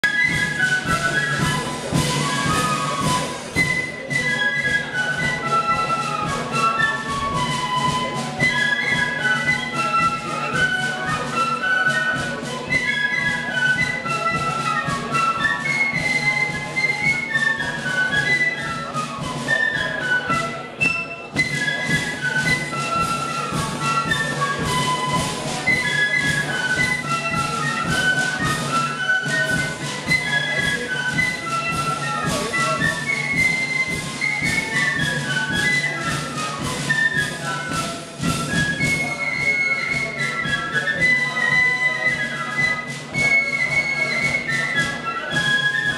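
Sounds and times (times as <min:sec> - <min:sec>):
steady drum beat: 0:00.0 - 0:43.7
massed flutes playing melody: 0:00.0 - 0:45.9.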